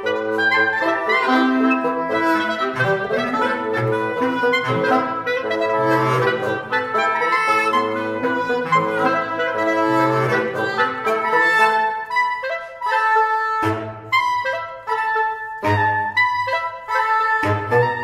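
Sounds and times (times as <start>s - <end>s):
reed quintet playing: 0.0s - 18.0s.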